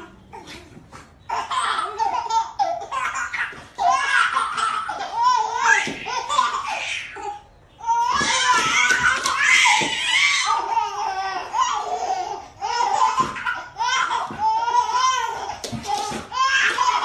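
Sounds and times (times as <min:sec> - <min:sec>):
baby laughing: 0:01.3 - 0:07.4, 0:08.1 - 0:17.0.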